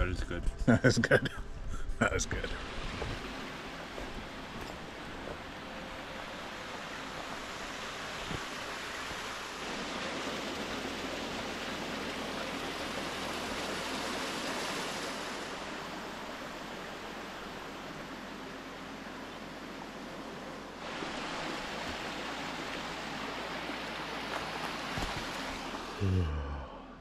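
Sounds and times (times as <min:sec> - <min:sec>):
small waves washing on shore: 0:02.3 - 0:26.0.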